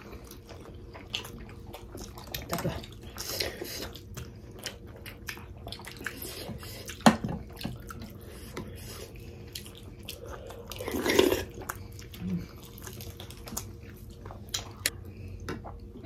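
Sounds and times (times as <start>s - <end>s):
wet chewing and mouth sounds: 0.0s - 16.0s.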